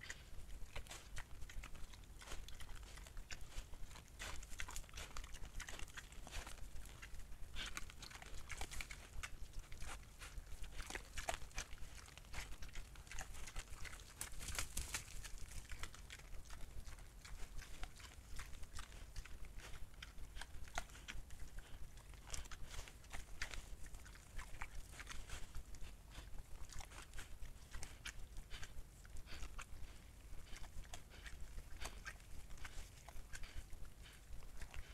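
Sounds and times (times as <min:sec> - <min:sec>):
boars crunching and chewing: 0:00.0 - 0:34.9.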